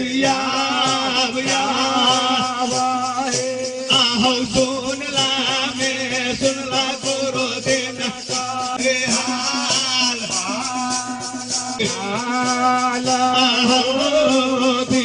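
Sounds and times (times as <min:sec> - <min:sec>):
shaken percussion: 0:00.0 - 0:15.0.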